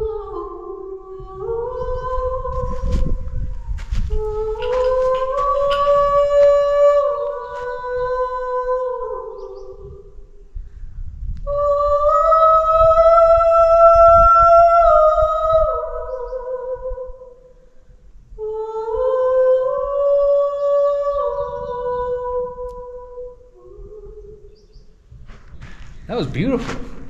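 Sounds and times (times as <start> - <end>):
woman singing in a cave: 0.0 - 25.1.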